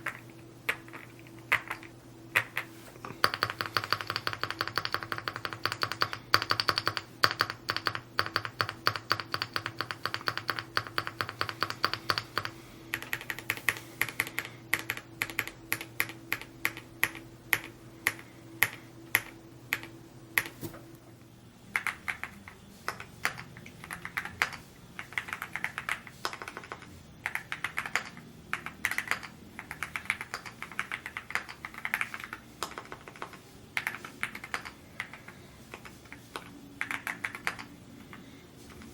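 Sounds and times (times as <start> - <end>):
mechanical keyboard typing: 0.0 - 20.5, 21.7 - 37.8.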